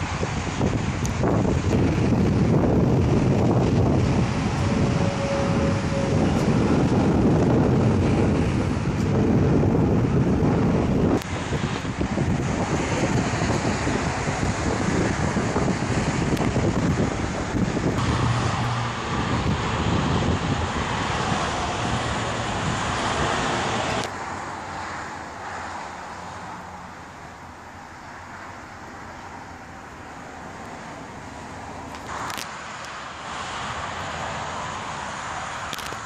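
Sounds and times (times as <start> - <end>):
highway traffic: 0.0 - 36.0.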